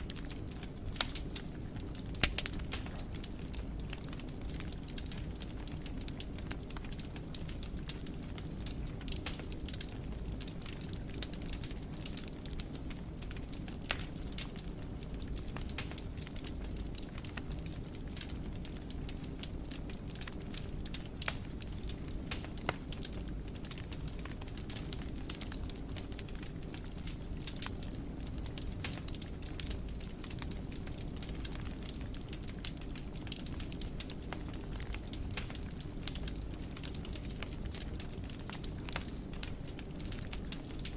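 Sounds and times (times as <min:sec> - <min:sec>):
fire crackling and popping: 0:00.0 - 0:40.9
wood fire burning: 0:00.0 - 0:40.9.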